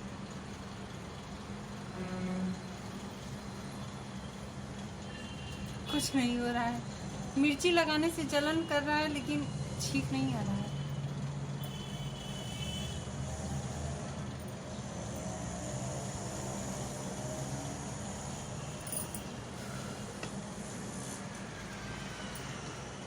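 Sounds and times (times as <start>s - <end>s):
low background hum and rumble: 0.0s - 23.0s.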